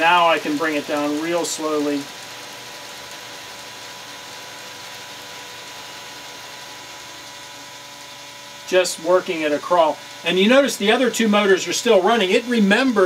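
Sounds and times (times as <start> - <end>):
electric model railroad motors whining: 0.0 - 13.0.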